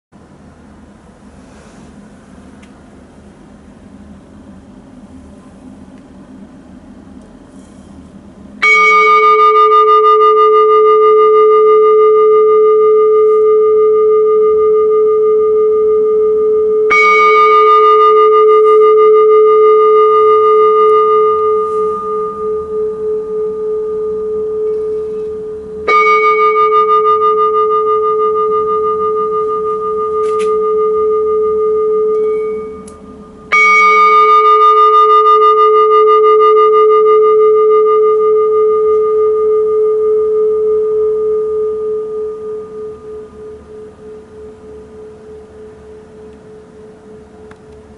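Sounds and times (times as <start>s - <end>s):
bowl bell ringing: 8.5s - 47.9s.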